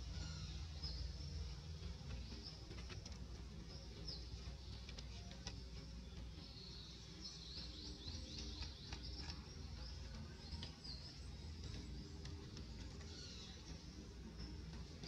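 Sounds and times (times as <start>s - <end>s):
low background hum: 0.0s - 15.0s
faint ticks: 1.4s - 15.0s.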